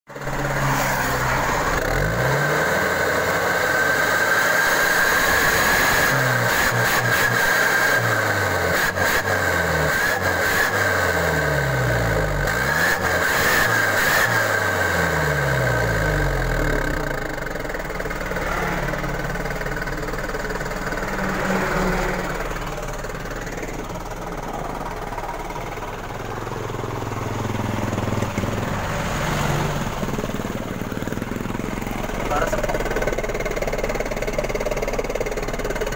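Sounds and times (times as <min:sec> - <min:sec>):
engine revving through exhaust: 0:00.2 - 0:35.9.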